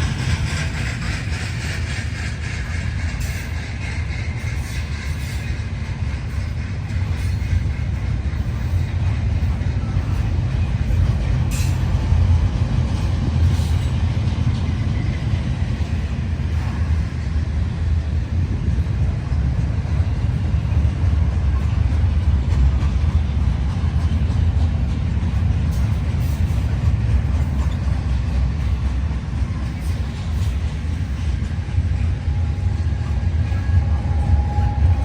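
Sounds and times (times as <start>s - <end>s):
freight train rumbling on rails: 0.0s - 35.0s.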